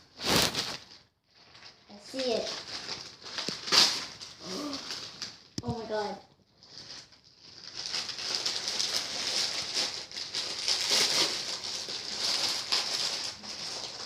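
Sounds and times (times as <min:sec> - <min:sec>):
packaging wrapping crinkling: 0:00.0 - 0:14.0.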